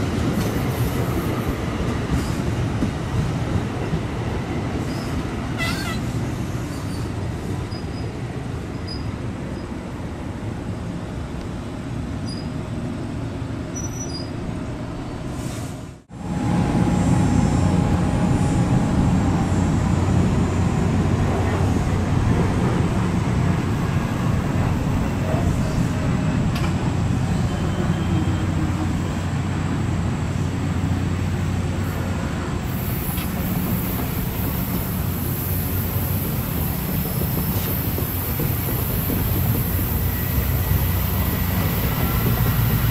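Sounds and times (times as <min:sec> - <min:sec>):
train wheels rumbling on rail: 0:00.0 - 0:42.9.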